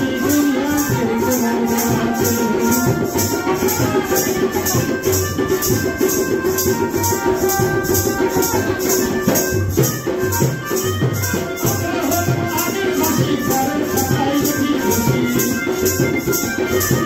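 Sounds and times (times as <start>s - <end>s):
shaker beat: 0.0s - 17.0s.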